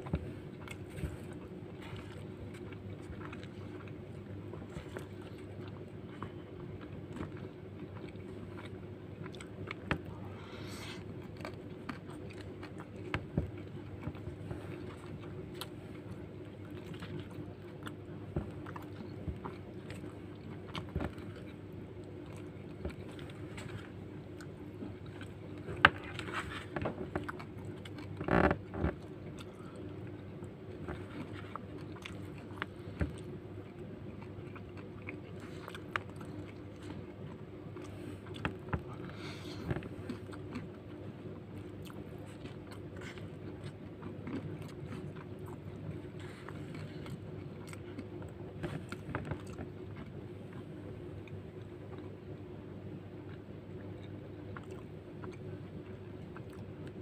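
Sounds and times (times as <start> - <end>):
man chewing food: 0.0 - 57.0
steady low hum: 0.0 - 57.0.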